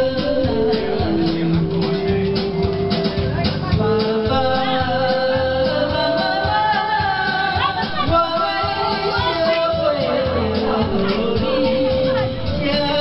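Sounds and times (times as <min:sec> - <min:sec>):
person singing long sliding notes: 0:00.0 - 0:02.6, 0:03.9 - 0:13.0
steady beat: 0:00.0 - 0:13.0.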